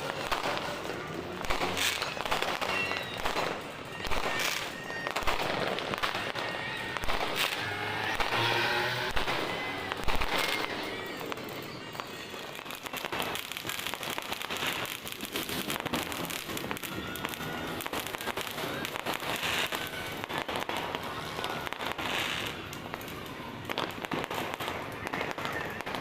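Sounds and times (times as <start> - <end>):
fireworks and firecrackers crackling: 0.0 - 26.0.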